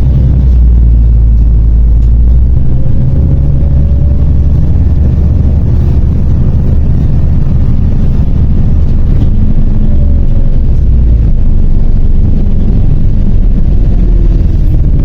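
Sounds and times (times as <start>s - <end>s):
bus engine rumble: 0.0s - 15.0s
faint whine: 0.0s - 15.0s.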